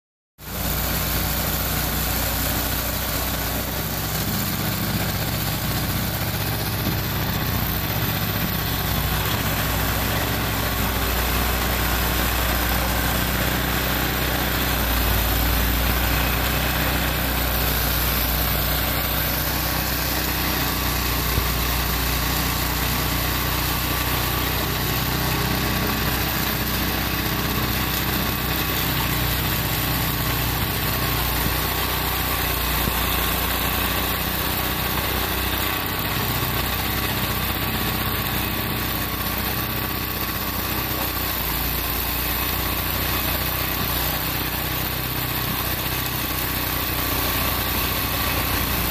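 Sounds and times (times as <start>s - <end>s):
snowblower engine running: 0.4s - 48.9s.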